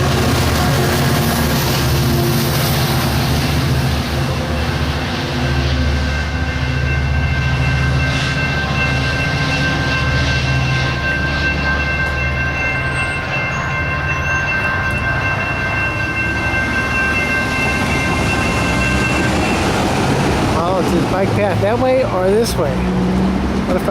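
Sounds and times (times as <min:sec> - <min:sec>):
train rumbling by: 0:00.0 - 0:23.9.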